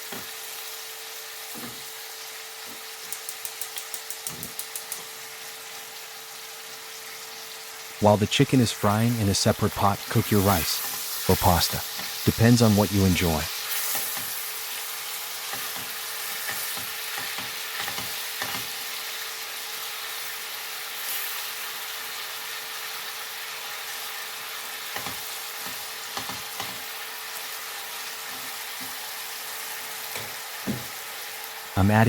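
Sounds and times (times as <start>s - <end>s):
food sizzling in frying pan: 0.0s - 31.8s.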